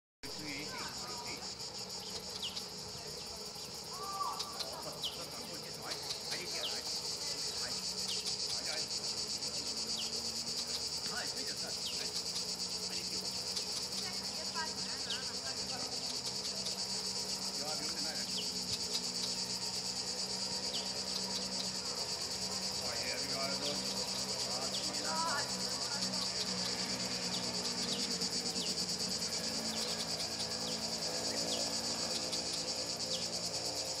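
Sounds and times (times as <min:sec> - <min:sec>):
insects chirring: 0:00.2 - 0:34.0.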